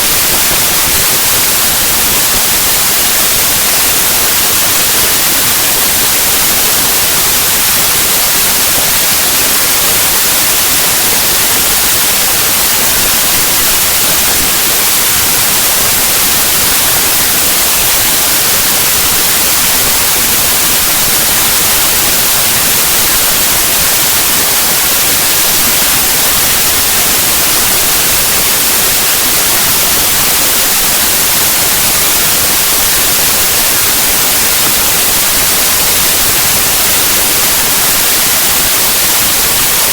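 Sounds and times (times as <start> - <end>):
loud white noise static: 0.0 - 39.9.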